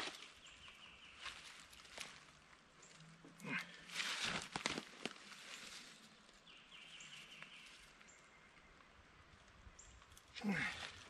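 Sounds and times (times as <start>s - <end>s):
faint woodland ambience: 0.0s - 11.0s.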